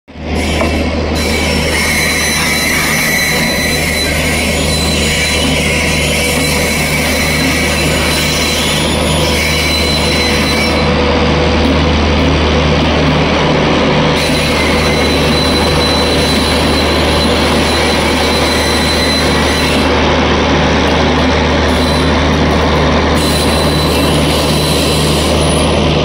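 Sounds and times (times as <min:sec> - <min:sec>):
train wheels rumbling on rails: 0:00.1 - 0:26.0.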